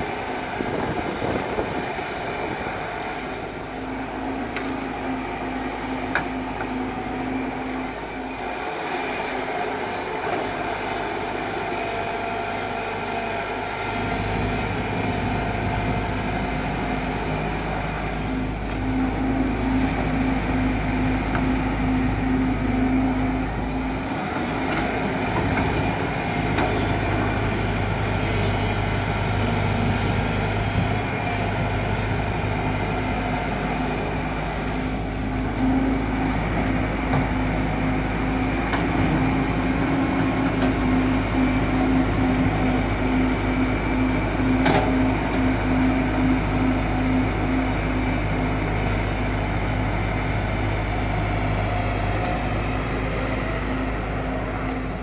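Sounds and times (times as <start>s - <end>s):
excavator diesel engine and hydraulics: 0.0s - 55.0s.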